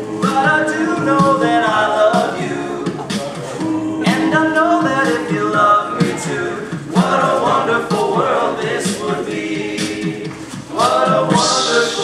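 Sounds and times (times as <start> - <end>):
male group singing in harmony: 0.0 - 12.0
vocal percussion beat: 0.0 - 12.0.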